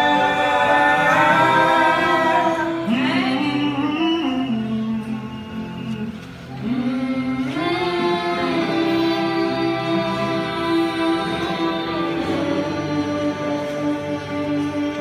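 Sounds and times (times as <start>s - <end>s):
musical accompaniment: 0.0s - 15.0s
person singing: 0.0s - 15.0s.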